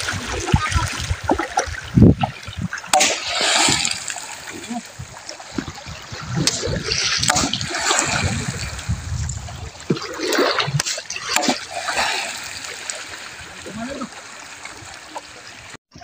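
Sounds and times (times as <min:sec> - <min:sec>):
person wading through shallow water: 0:00.0 - 0:16.0.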